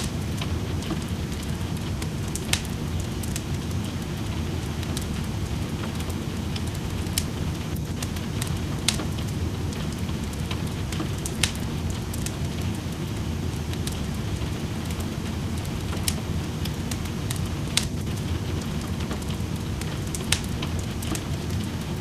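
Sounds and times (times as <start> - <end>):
rain hissing: 0.0 - 22.0
wood fire crackling: 0.0 - 22.0.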